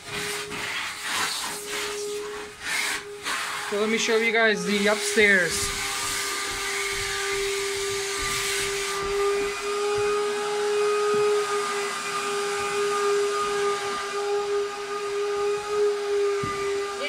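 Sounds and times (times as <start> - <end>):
vacuum cleaner whine: 0.0 - 17.0.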